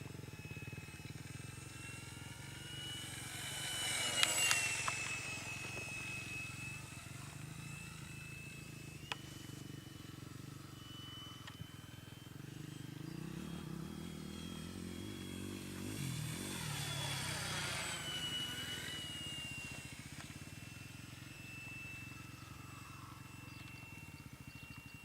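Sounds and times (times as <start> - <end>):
propeller plane passing by: 0.0 - 25.0.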